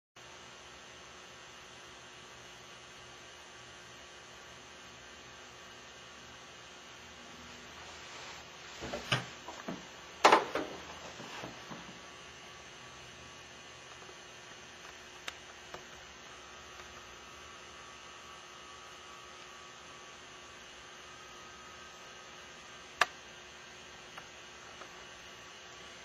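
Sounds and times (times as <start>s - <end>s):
faint electrical hum with hiss: 0.2s - 26.0s.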